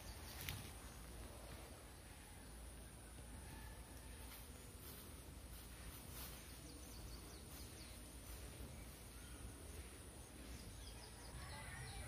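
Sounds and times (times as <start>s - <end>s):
faint bird chirps: 0.0s - 12.0s
steady high-pitched whine: 0.0s - 12.0s.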